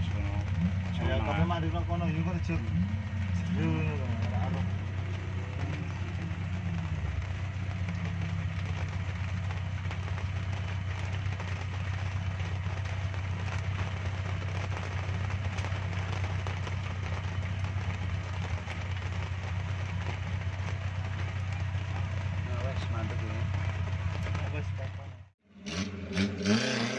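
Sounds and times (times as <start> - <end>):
engine running at low revs: 0.0 - 26.9.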